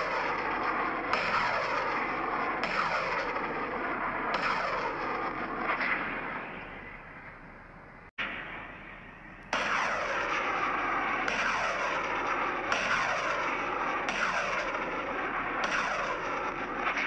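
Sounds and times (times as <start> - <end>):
continuous roar: 0.0 - 17.0.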